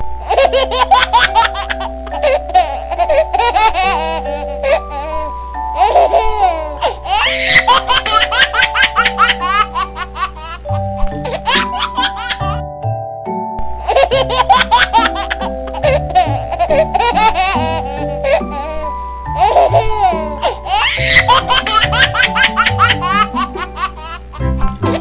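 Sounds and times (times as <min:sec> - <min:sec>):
background music: 0:00.0 - 0:25.0
baby giggling and laughing: 0:00.2 - 0:12.6, 0:13.8 - 0:25.0.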